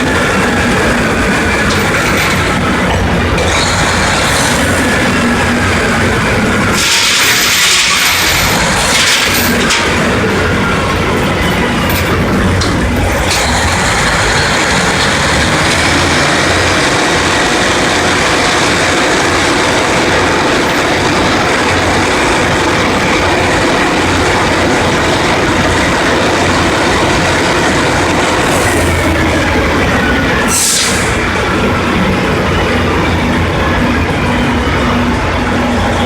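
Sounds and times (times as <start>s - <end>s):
loud mechanical din of machinery: 0.0s - 36.0s.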